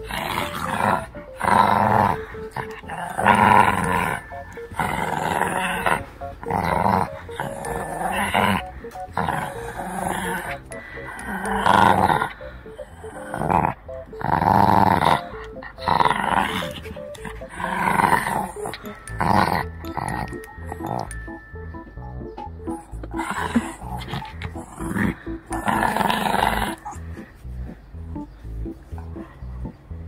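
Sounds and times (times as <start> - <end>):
puppy play growling: 0.0 - 21.5, 22.7 - 27.8.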